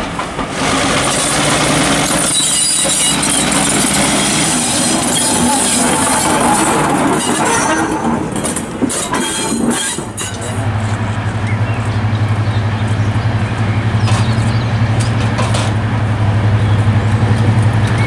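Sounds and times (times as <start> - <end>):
diesel locomotive engine drone: 0.0 - 18.0
railway wheels clattering: 0.0 - 18.0.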